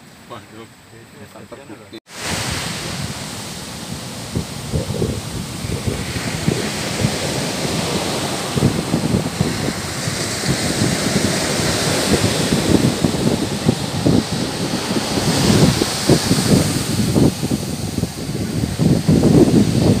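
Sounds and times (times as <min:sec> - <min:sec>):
ocean surf washing up beach: 0:00.0 - 0:20.0
wind buffeting microphone: 0:02.1 - 0:20.0.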